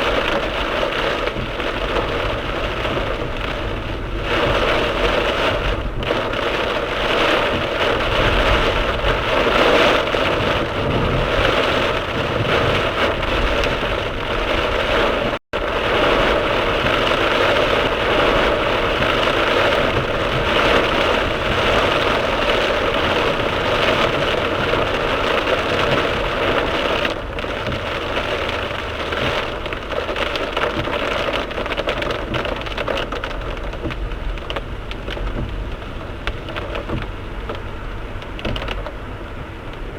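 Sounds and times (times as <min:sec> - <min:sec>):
heavy rain drumming on car roof: 0:00.0 - 0:39.9
low road noise: 0:00.0 - 0:39.9.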